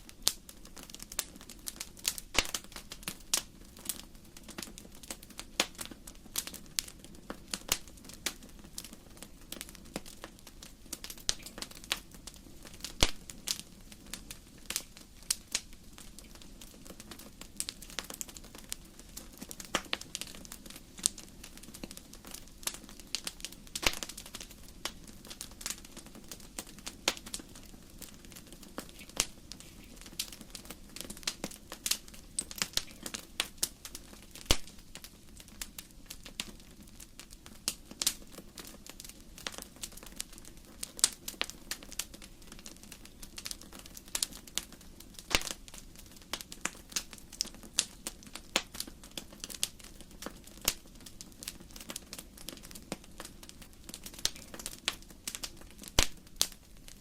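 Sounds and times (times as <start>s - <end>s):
firewood crackling and popping: 0.0s - 57.0s
low rumble of fire: 0.0s - 57.0s.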